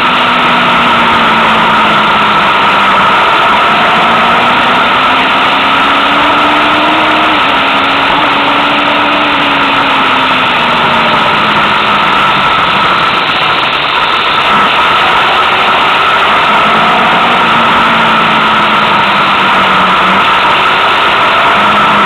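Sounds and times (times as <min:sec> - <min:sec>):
vehicle engine running: 0:00.0 - 0:22.0
wind and road noise: 0:00.0 - 0:22.0.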